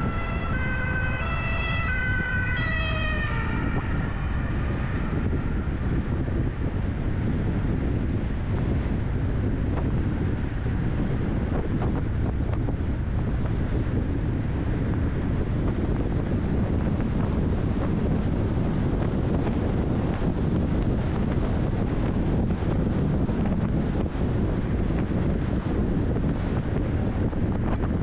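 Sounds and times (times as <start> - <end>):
car road noise: 0.0 - 28.0
wind rumble on microphone: 0.0 - 28.0.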